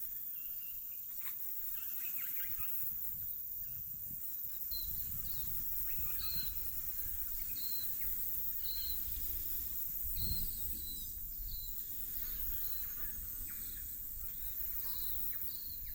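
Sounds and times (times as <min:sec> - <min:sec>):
insect-like hiss: 0:00.0 - 0:15.9.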